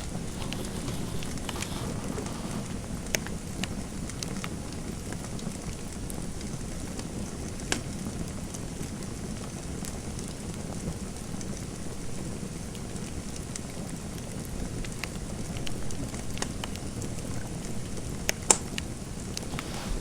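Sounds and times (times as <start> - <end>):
low rumble of burning fire: 0.0 - 20.0.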